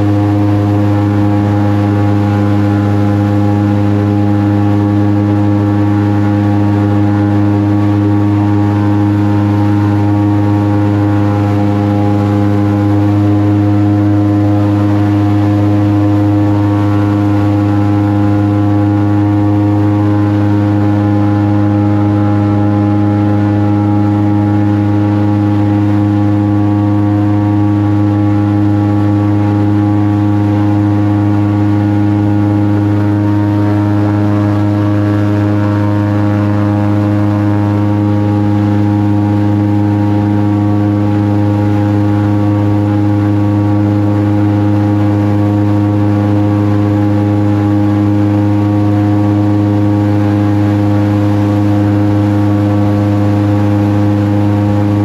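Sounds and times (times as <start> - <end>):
airboat engine and propeller drone: 0.0 - 55.0.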